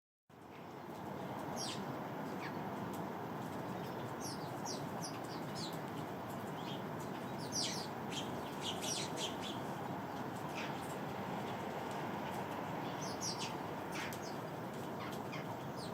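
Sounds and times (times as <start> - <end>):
low background noise: 0.3 - 15.9
sparrows chirping: 0.6 - 15.9.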